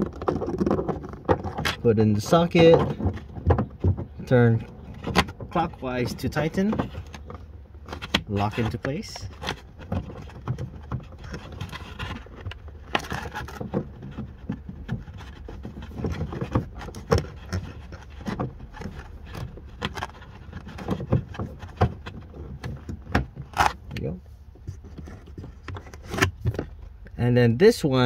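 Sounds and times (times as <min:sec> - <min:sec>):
plastic clicks scrapes and rustles: 0:00.0 - 0:27.2.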